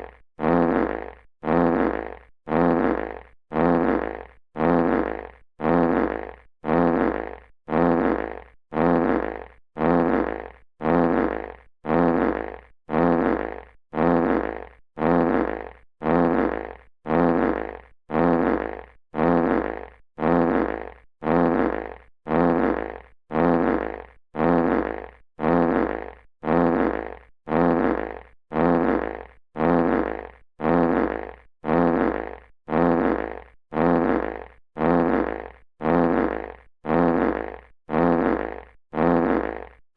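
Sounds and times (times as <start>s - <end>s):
fart sound effect: 0.0s - 39.8s.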